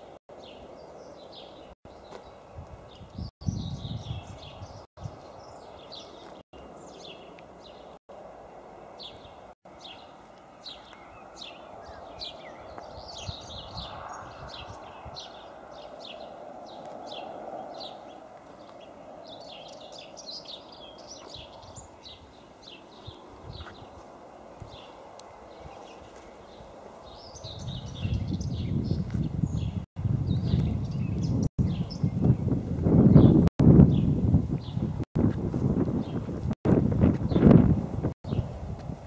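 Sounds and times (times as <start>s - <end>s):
small birds chirping: 0.0s - 8.0s, 8.8s - 34.9s, 38.2s - 38.6s.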